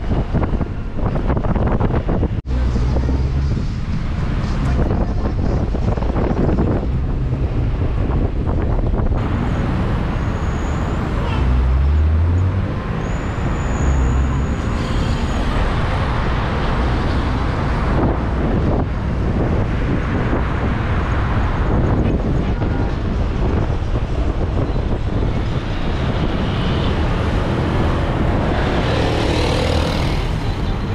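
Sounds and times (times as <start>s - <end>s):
wind on microphone: 0.0s - 10.3s, 11.0s - 30.9s
car engine and tyre rumble: 0.0s - 30.9s
city traffic noise: 0.0s - 30.9s.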